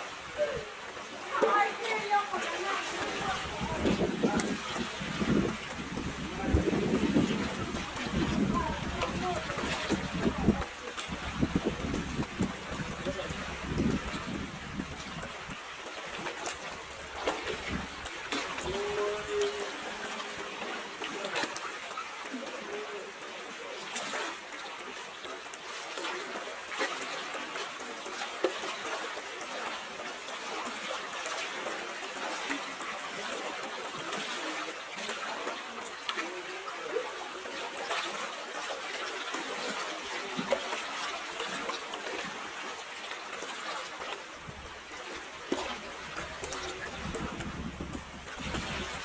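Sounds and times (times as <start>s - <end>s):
water trickling and splashing: 0.0s - 49.0s.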